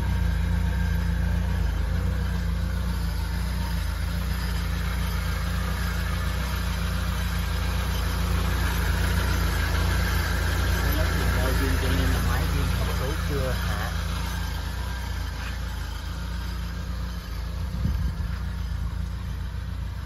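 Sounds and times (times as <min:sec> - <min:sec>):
small truck engine idling: 0:00.0 - 0:20.0.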